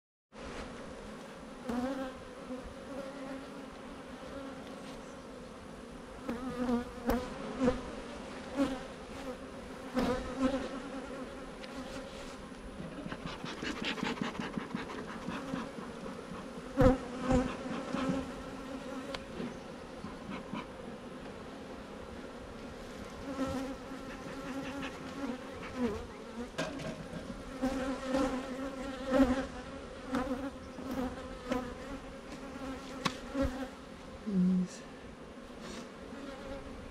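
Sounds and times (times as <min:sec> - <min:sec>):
honeybees buzzing: 0:00.4 - 0:36.9.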